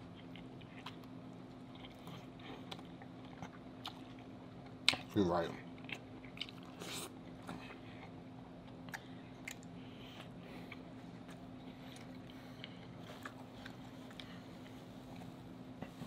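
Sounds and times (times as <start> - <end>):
wet chewing mouth sounds: 0.0 - 5.1, 5.8 - 15.3
faint low hum: 0.0 - 16.0.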